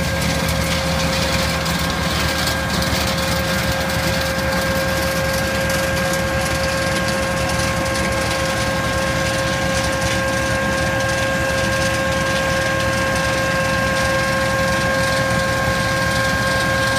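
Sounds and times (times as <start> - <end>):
harvester machine whine: 0.0 - 16.9
tractor engine rumble: 0.0 - 16.9.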